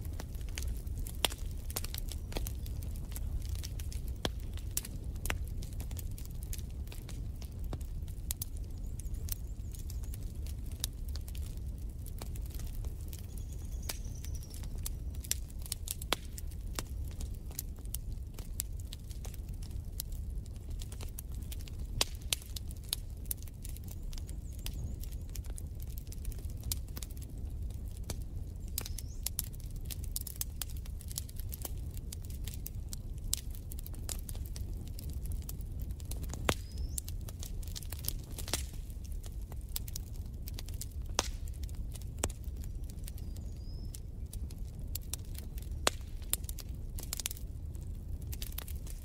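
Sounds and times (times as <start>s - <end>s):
fire pops and snaps: 0.0s - 49.0s
low rumble of flames: 0.0s - 49.0s.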